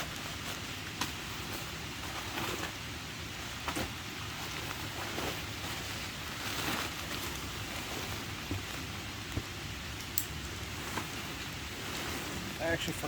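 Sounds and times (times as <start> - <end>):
rain falling on woods: 0.0 - 13.0.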